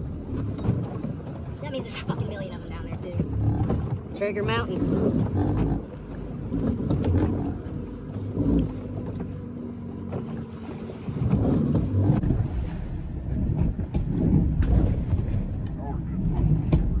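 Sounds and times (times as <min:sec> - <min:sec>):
boat engine low hum: 0:00.0 - 0:17.0
rough water noise: 0:00.0 - 0:17.0.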